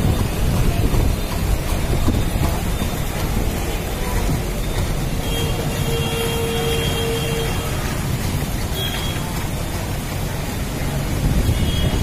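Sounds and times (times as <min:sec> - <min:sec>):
strong wind buffeting microphone: 0:00.0 - 0:05.8, 0:07.5 - 0:12.0
road traffic passing: 0:00.0 - 0:12.0.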